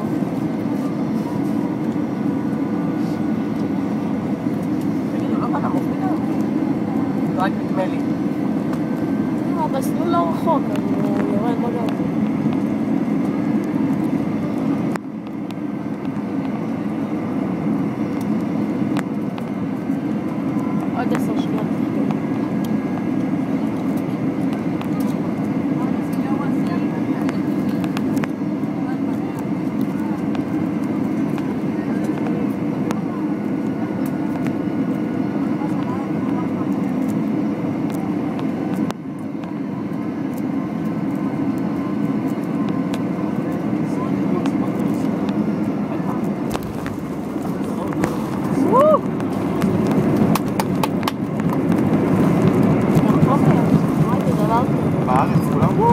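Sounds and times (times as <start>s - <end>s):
aircraft cabin roar: 0.0s - 55.9s.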